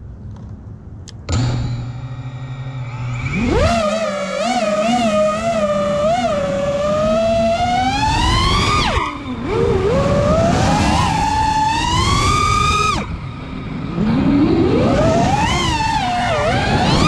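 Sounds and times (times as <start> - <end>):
drone motors whining: 1.2 - 17.0.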